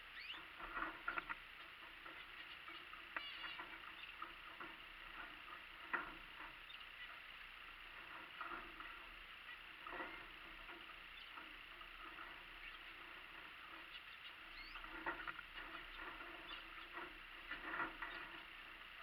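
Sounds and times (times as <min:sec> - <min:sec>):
finches chirping: 0:00.0 - 0:19.0.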